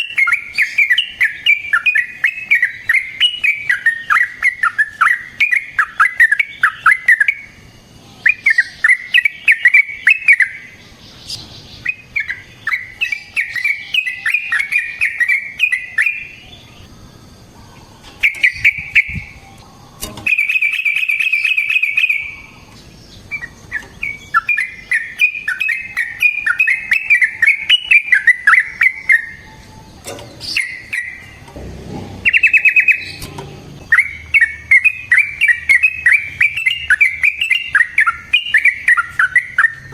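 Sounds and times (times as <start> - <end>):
bulbul chattering song: 0.0 - 39.9
rapid bird trill: 0.0 - 39.9.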